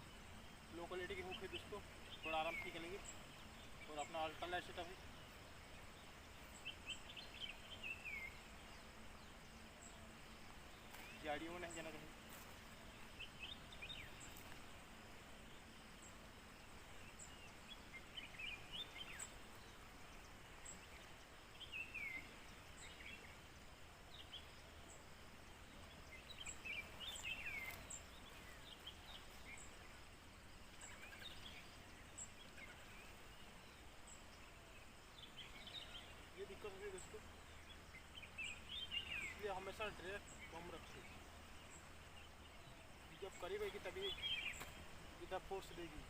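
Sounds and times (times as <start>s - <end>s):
outdoor background hiss: 0.0s - 46.0s.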